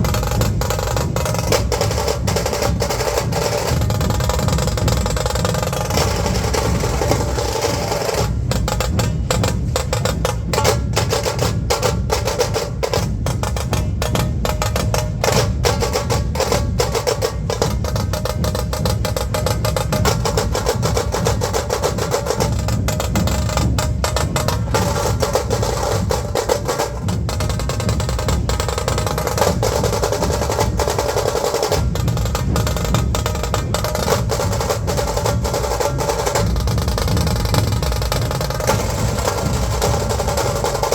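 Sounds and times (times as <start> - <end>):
drums in a fast rhythm: 0.0 - 40.9.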